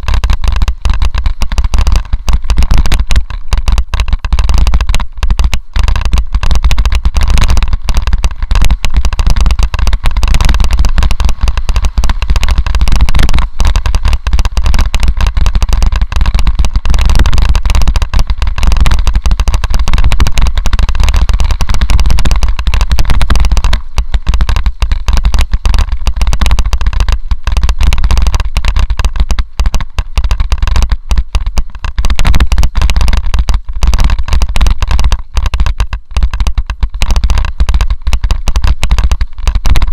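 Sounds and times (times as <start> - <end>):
mountain bike rattling on trail: 0.0 - 39.9
wind rumble on microphone: 0.0 - 39.9.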